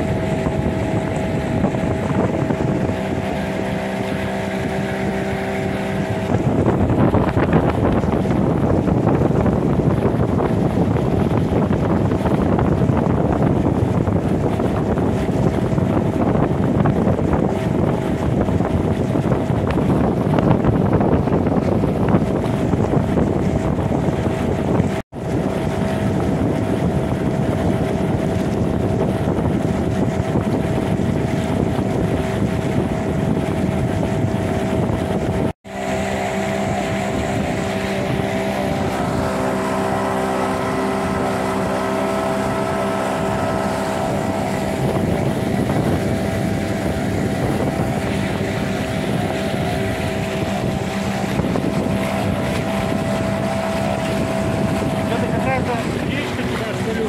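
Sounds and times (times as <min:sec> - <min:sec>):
outboard motor running: 0:00.0 - 0:57.0
wind buffeting microphone: 0:00.0 - 0:57.0.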